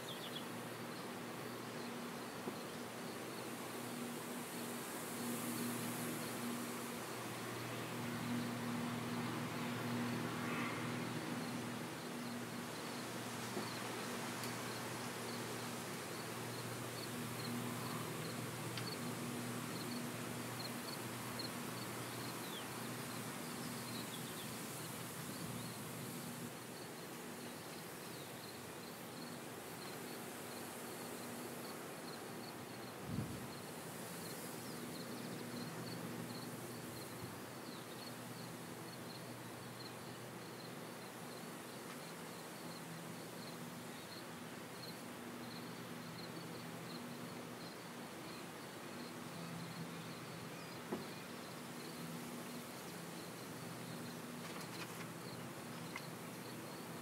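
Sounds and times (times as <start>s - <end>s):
distant combine harvesters humming: 0.0s - 57.0s
insects chirping: 0.0s - 57.0s.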